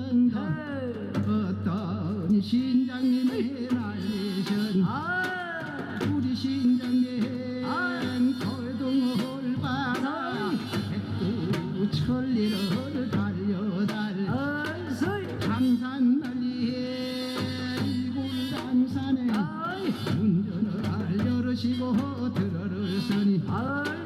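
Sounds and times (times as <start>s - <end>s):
steady drum strokes: 0.0s - 24.0s.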